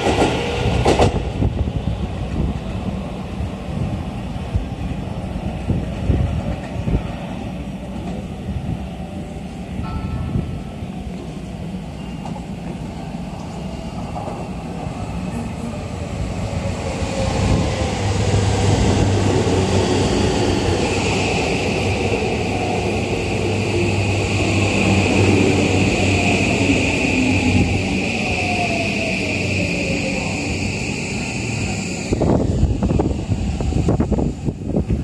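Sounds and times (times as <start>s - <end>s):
electric train whine: 0.0s - 35.0s
train cars rumbling past: 0.0s - 35.0s.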